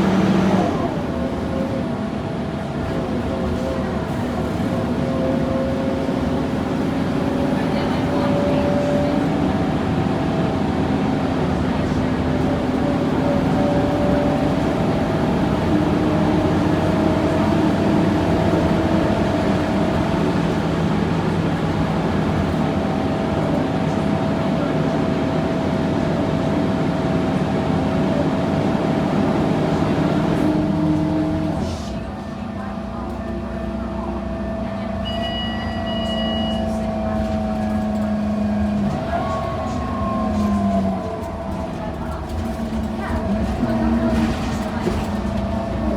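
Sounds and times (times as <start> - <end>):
bus engine running: 0.0 - 45.9.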